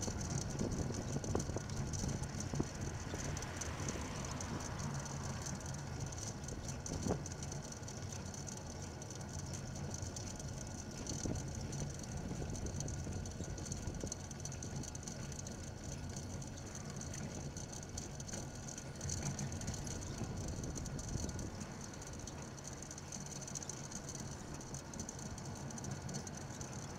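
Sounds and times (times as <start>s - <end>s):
light rattle: 0.0s - 26.9s
wind and road noise from bicycle: 0.0s - 26.9s.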